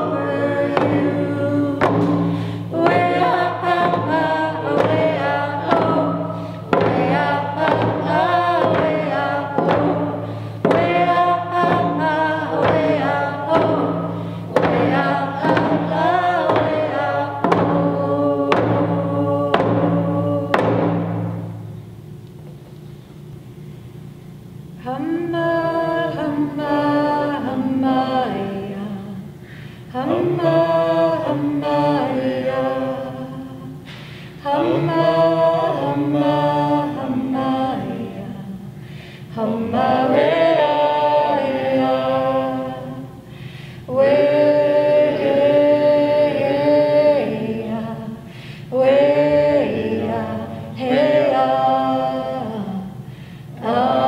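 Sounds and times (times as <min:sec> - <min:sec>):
group of voices singing: 0:00.0 - 0:21.3, 0:24.8 - 0:54.0.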